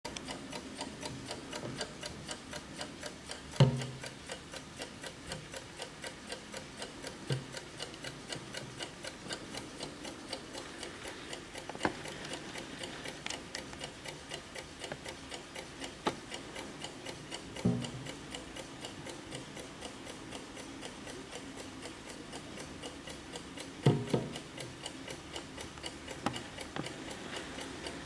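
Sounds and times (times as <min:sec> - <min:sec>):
clock ticking: 0:00.0 - 0:28.0.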